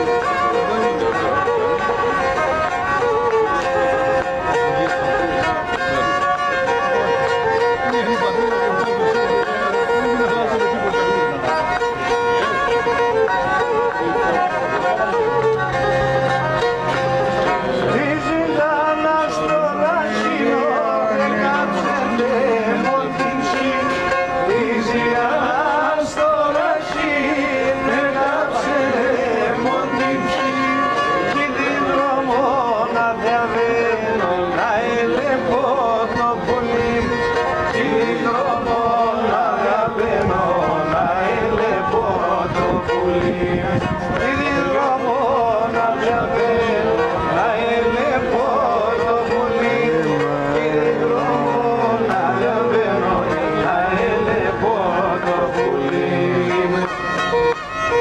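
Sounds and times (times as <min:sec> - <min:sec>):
bowed lyra melody: 0:00.0 - 0:58.0.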